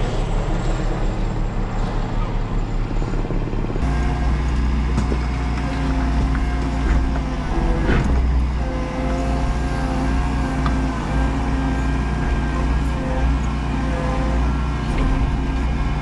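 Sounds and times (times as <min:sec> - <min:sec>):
excavator engine humming and whining: 0:00.0 - 0:16.0
helicopter rotor chop: 0:00.0 - 0:16.0.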